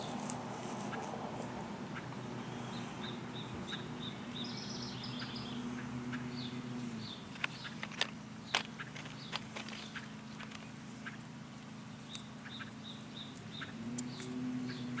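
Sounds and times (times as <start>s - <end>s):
low steady hum: 0.0s - 15.0s
small bird chirping: 1.9s - 15.0s.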